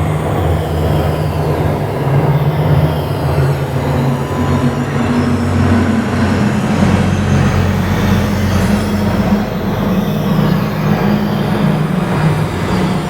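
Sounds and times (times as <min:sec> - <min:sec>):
low droning electronic tones: 0:00.0 - 0:13.0.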